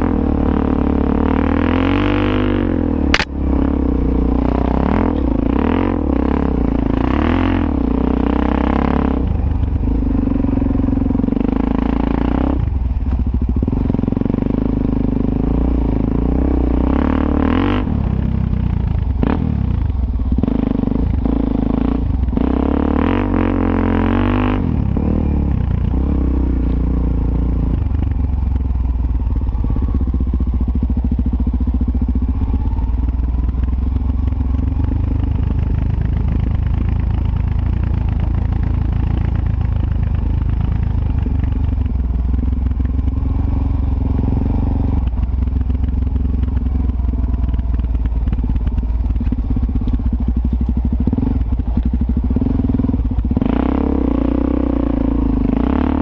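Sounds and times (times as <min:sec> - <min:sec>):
motorcycle engine under load: 0:00.0 - 0:56.0.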